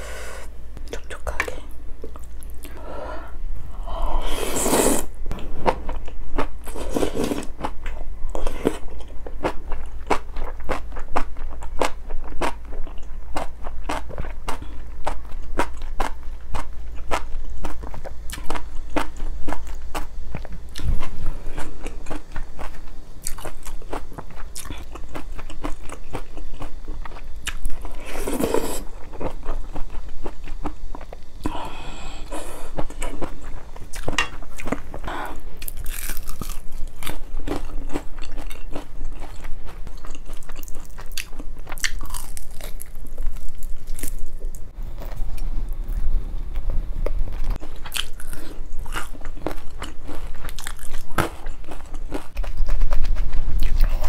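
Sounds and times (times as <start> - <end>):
close chewing and crunching: 5.7 - 54.0.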